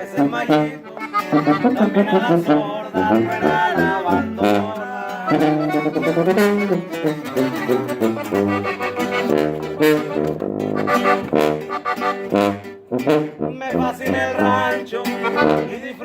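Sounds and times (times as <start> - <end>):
band music with tuba: 0.0 - 16.0
brass melody: 0.0 - 16.0.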